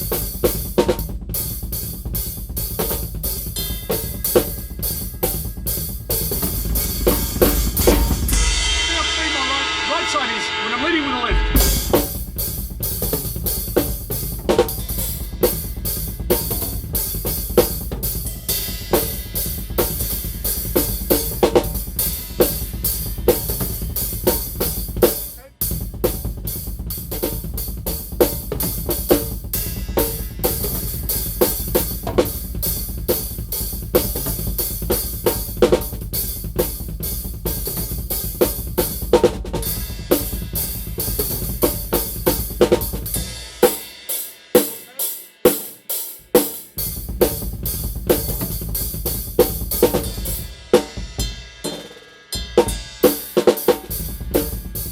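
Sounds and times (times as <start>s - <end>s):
acoustic drum kit groove: 0.0s - 54.9s.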